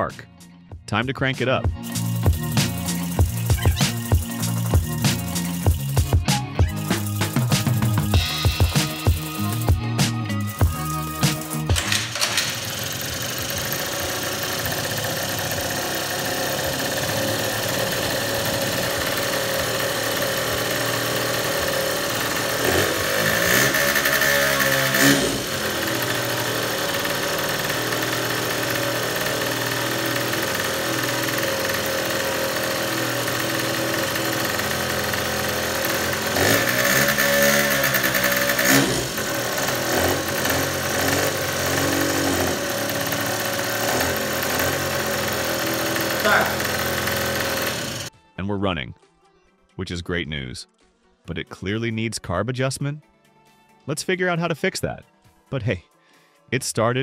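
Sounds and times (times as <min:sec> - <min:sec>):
throttle blips revving engine: 0:01.7 - 0:11.8, 0:12.4 - 0:48.1
two-stroke scooter engine running: 0:01.7 - 0:48.1.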